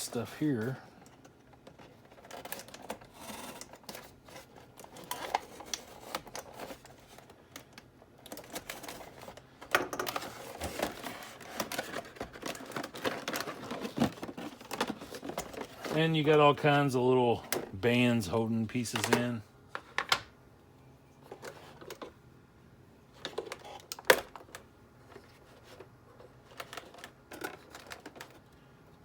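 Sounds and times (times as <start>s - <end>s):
plastic rustling: 0.0s - 18.0s, 23.1s - 28.5s.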